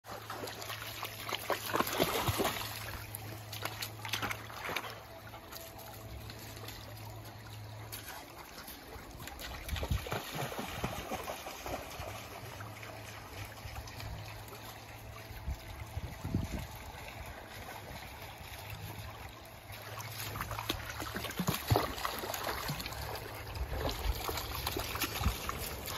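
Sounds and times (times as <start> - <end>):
dogs splashing through water: 0.1 - 25.9
stream trickling: 0.1 - 25.9.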